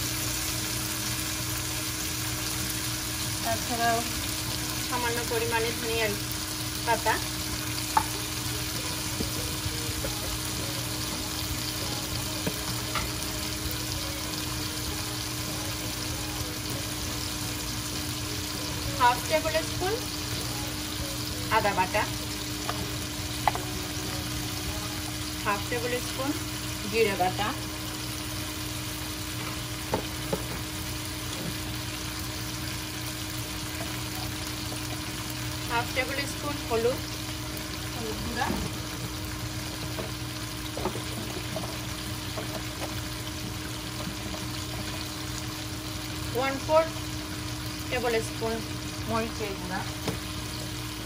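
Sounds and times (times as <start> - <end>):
oil sizzling in a wok: 0.0 - 51.0.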